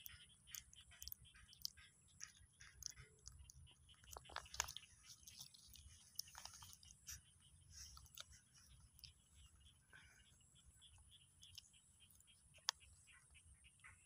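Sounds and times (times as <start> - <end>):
monkey chewing food: 0.0 - 12.9.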